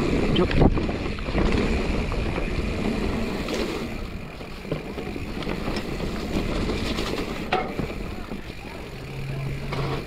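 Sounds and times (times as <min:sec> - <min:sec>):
bike rattling: 0:00.0 - 0:10.0
bike tyres rolling over dirt: 0:00.0 - 0:10.0.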